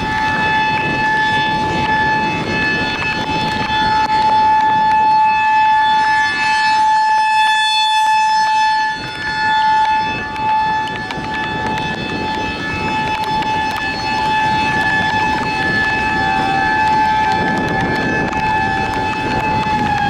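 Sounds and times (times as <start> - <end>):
rotating warning siren: 0.0 - 20.0.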